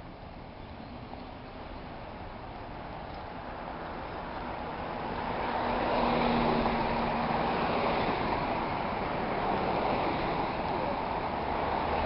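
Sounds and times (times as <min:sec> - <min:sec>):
car passing close: 0:01.6 - 0:12.0.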